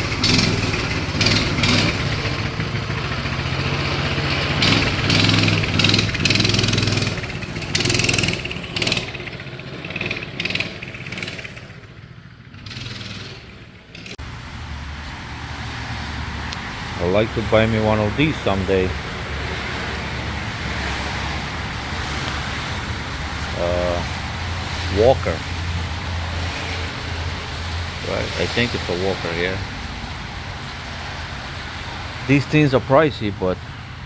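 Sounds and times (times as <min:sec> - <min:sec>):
engine humming: 0:00.0 - 0:34.0.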